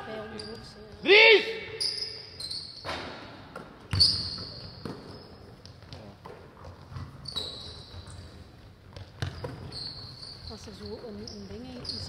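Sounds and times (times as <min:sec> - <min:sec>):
sports shoes squeaking: 0:00.0 - 0:12.0.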